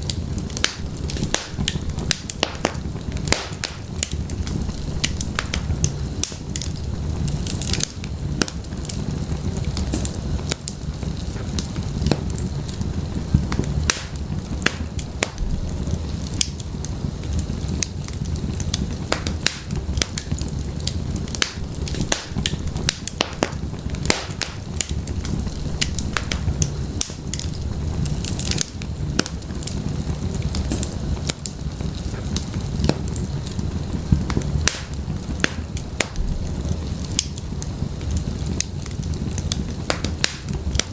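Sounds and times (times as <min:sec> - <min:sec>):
firewood crackling and popping: 0:00.0 - 0:40.9
low rumble of flames: 0:00.0 - 0:40.9.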